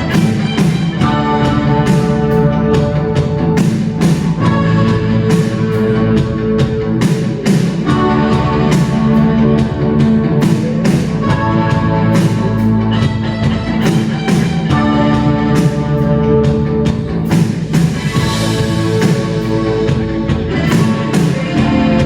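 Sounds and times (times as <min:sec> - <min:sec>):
electric guitar: 0:00.0 - 0:22.0
steady drum beat: 0:00.0 - 0:22.0
sustained keyboard chords: 0:00.0 - 0:22.0.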